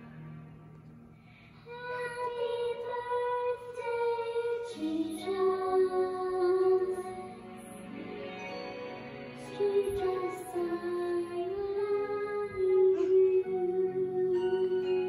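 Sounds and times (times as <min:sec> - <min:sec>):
soft instrumental backing: 0:00.0 - 0:15.0
girl singing into microphone: 0:01.3 - 0:07.8, 0:09.4 - 0:15.0.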